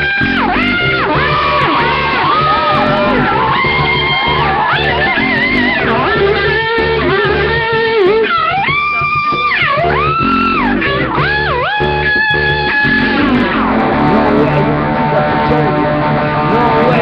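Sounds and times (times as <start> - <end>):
drums: 0.0 - 14.8
bass guitar: 0.0 - 17.0
electric guitar solo: 0.0 - 17.0.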